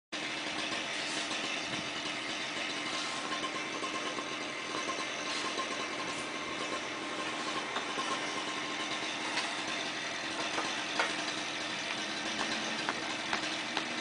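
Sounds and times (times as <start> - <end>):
engine running steadily: 0.2 - 14.0.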